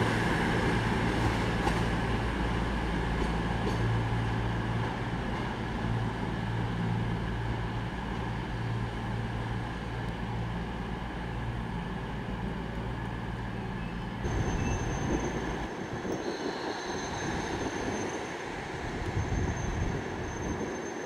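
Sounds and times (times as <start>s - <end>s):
diesel train engine humming: 0.0s - 21.0s.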